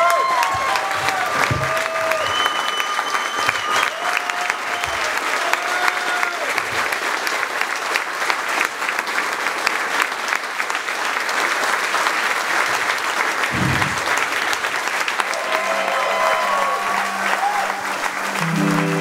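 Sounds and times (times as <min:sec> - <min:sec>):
indoor crowd applauding: 0:00.0 - 0:19.0.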